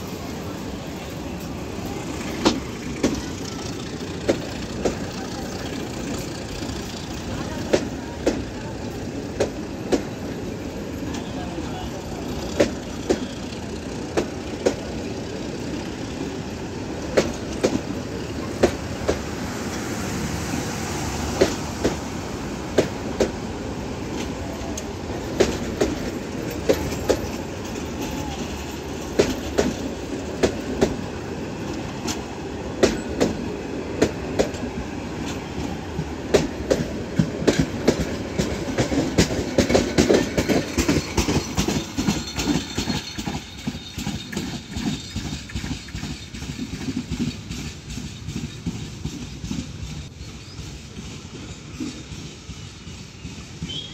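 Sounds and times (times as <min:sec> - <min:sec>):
train coaches rumbling past: 0:00.0 - 0:53.9.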